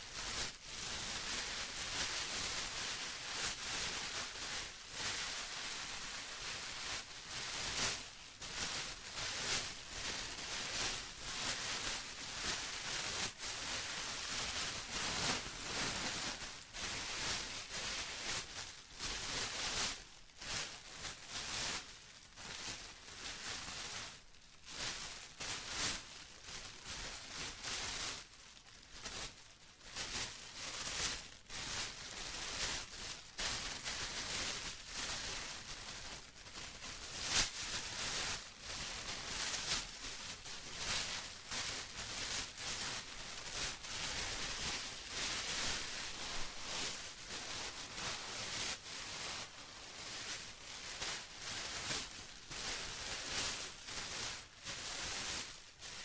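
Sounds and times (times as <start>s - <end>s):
plastic crumpled by hand: 0.0s - 56.0s.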